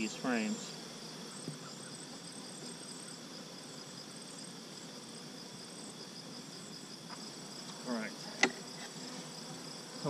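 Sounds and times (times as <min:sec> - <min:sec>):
cricket trill: 0:00.0 - 0:10.0
honey bees droning: 0:00.0 - 0:10.0.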